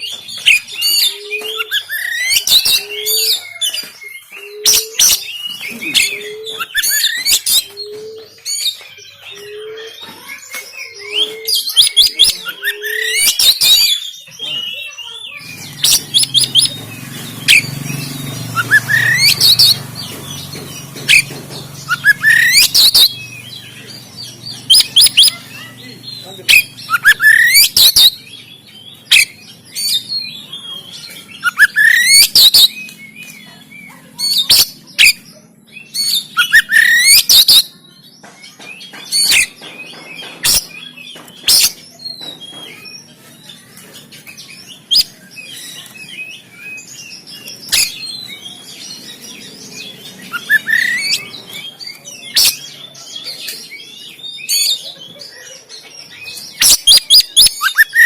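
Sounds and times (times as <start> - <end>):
bird singing harsh whistled notes: 0.0 - 37.9, 38.5 - 54.9, 56.0 - 58.0.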